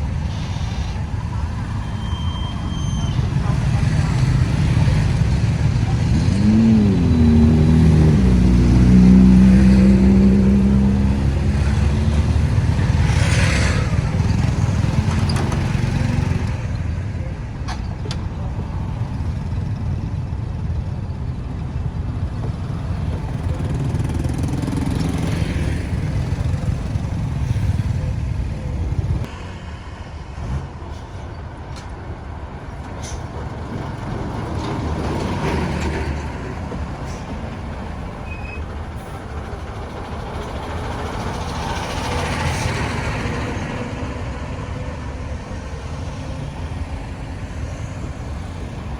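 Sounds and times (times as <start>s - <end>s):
heavy vehicle engine running: 0.0s - 48.9s
road traffic noise: 0.0s - 48.9s.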